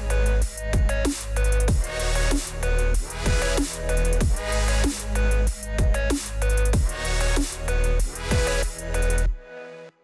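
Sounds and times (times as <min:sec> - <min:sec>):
electronic dance music: 0:00.0 - 0:09.6.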